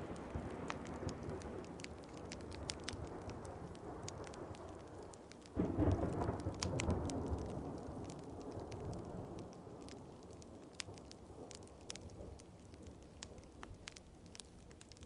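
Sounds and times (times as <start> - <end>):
thunder rumbling: 0.0 - 14.4
steady rain: 0.0 - 15.0
wood fire crackling: 0.0 - 15.0.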